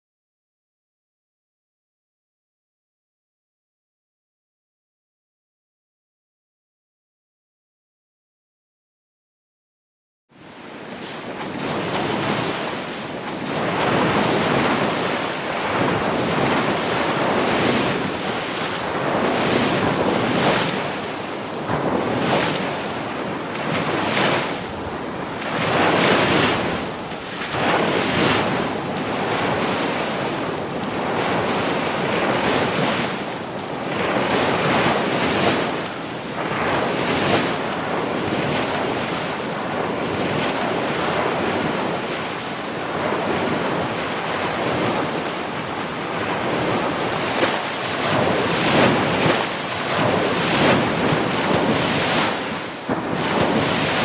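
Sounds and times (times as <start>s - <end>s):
ocean waves breaking: 10.4s - 54.0s.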